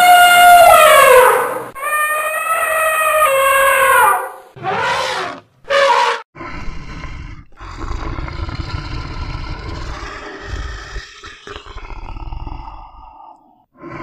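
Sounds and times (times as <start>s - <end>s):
animal roaring calls: 0.0s - 14.0s.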